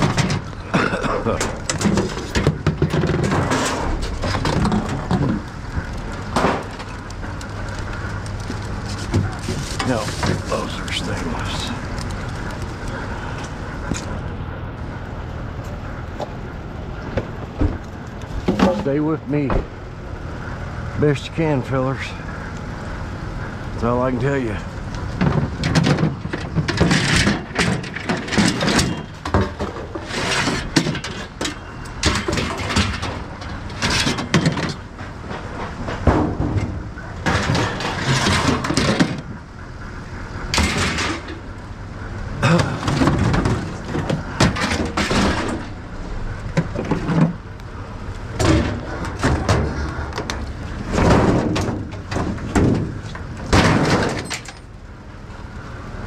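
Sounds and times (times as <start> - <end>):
scrap metal clanking and scraping: 0.0 - 14.2, 17.2 - 19.6, 24.4 - 39.4, 40.5 - 41.5, 42.4 - 54.8.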